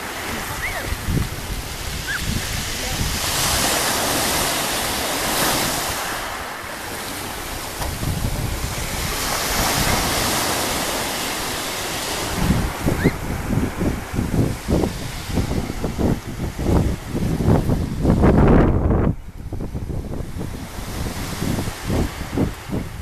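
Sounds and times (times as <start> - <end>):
sea waves washing on shore: 0.0 - 23.0
wind buffeting microphone: 0.0 - 23.0.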